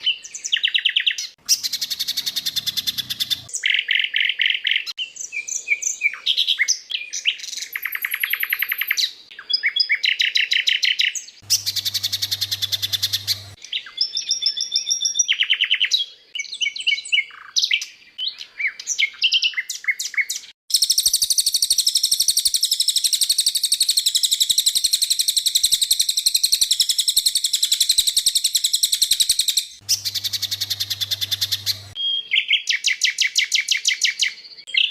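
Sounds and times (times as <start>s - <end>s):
bird warbling song: 0.0s - 34.9s
birds chirping and trilling: 0.0s - 34.9s.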